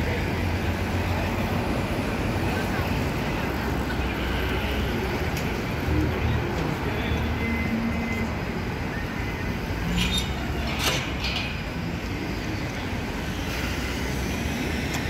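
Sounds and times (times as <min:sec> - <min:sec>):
city road traffic rumble: 0:00.0 - 0:15.0.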